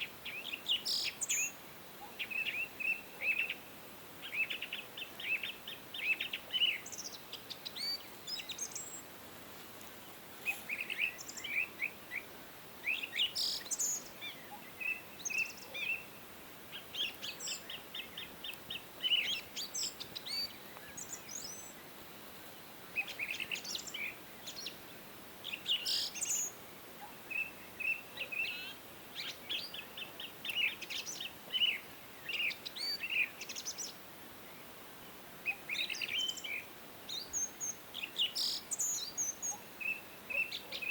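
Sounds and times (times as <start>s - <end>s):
faint background hiss: 0.0s - 40.9s
songbirds chirping: 0.0s - 40.9s.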